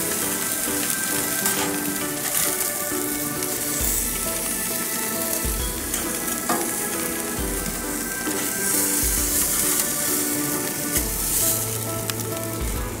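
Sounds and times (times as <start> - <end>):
background music melody: 0.0 - 13.0
fish sizzling on a grill: 0.0 - 13.0.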